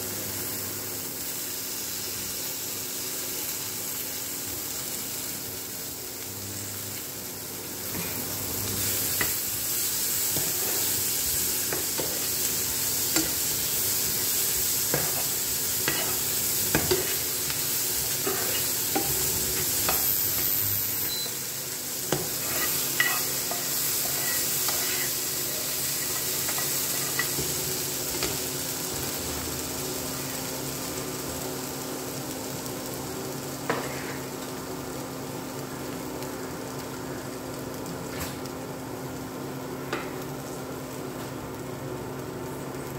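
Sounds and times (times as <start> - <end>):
vegetables sizzling in frying pan: 0.0 - 42.9.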